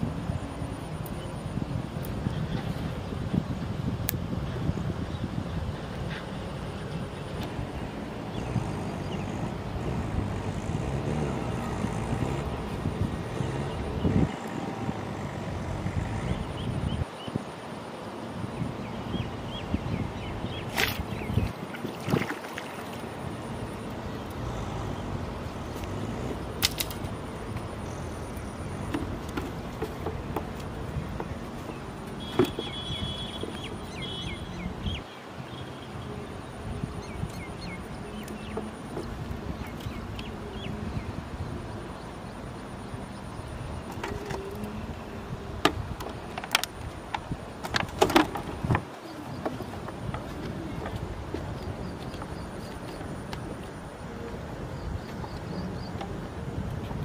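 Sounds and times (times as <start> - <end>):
water: 0.0 - 57.0
wind on microphone: 0.0 - 57.0.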